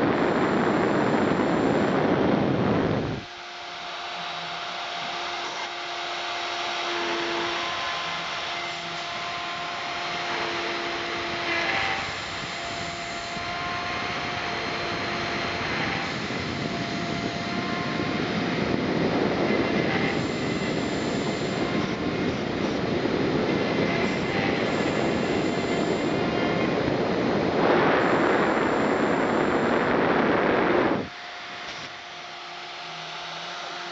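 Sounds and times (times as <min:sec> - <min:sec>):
spindle whine: 0:00.0 - 0:33.9
stepper motor tones: 0:00.0 - 0:33.9.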